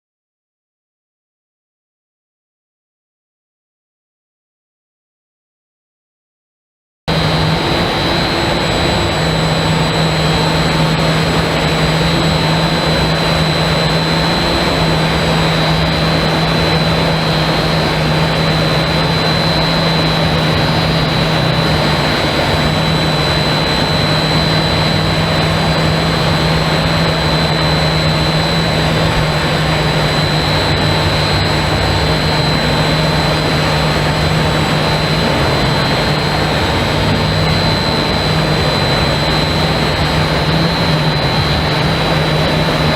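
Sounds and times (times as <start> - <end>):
high machine whine: 7.1 - 42.9
industrial furnace equipment humming: 7.1 - 42.9.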